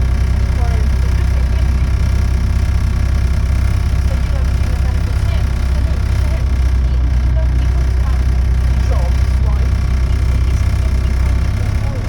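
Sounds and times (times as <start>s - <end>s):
bus diesel engine running: 0.0s - 12.0s
exhaust rasp: 0.0s - 12.0s.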